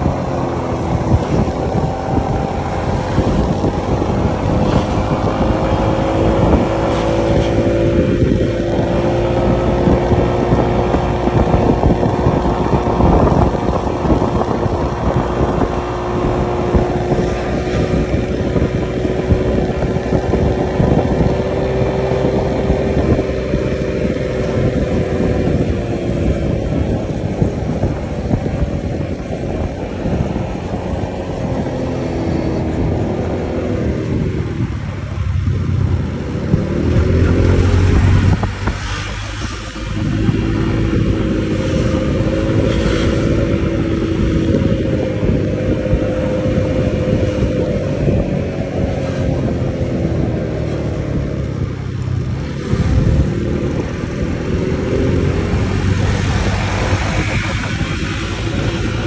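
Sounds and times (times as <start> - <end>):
road noise: 0.0 - 59.0
scooter engine droning: 0.0 - 59.0.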